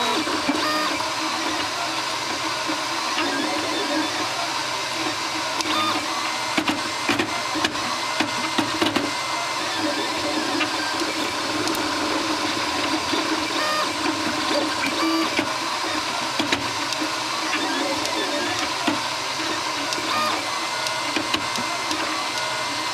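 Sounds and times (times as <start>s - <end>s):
printer motors whining: 0.0s - 22.9s.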